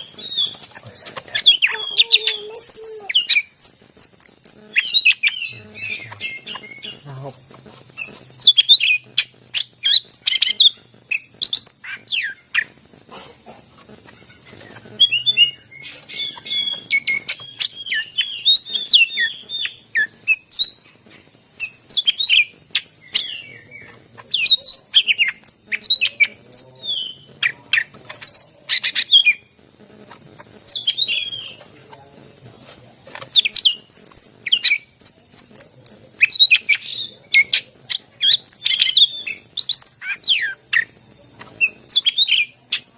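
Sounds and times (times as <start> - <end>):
bird singing chirps and whistles: 0.0 - 7.2, 8.0 - 12.8, 14.5 - 20.8, 21.6 - 29.5, 30.6 - 31.6, 33.3 - 42.9.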